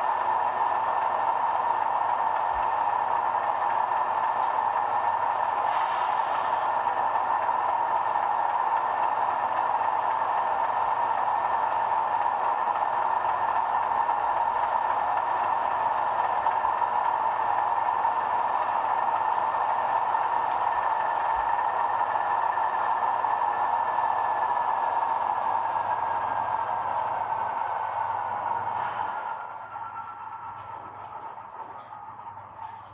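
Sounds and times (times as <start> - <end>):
model locomotive engine drone: 0.0 - 32.9.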